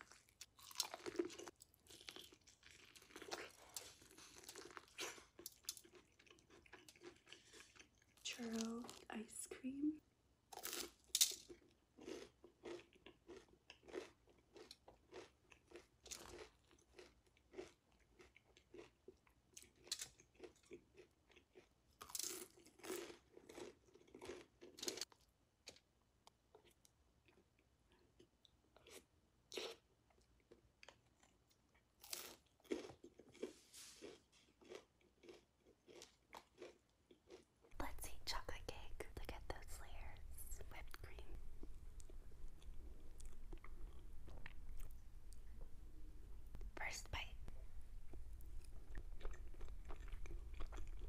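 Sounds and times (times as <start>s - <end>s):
person chewing crisp food: 0.0s - 9.1s, 10.5s - 51.0s.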